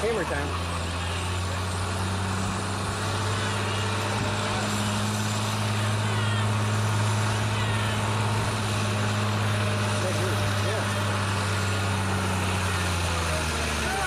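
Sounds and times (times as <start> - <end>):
tractor engine working hard: 0.0 - 14.0.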